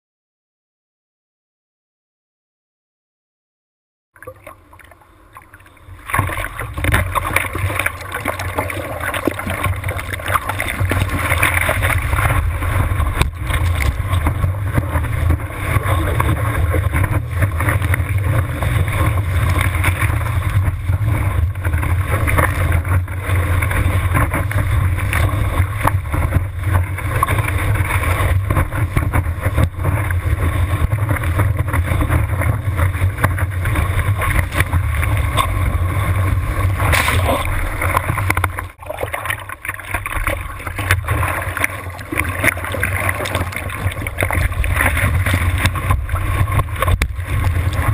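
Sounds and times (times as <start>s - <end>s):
surf water rushing and splashing: 4.2s - 47.9s.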